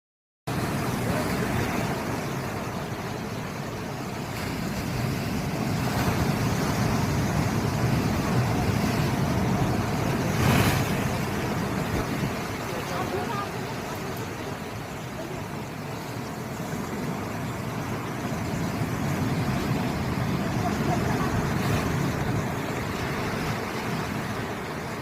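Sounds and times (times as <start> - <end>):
sea waves washing in: 0.5 - 25.0
wave breaking: 0.5 - 25.0.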